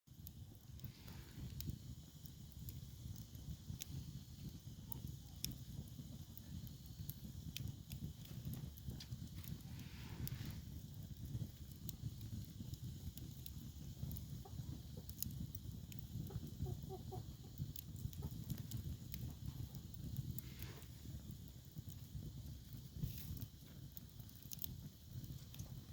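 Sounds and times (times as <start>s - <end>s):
firewood crackling and popping: 0.1s - 25.9s.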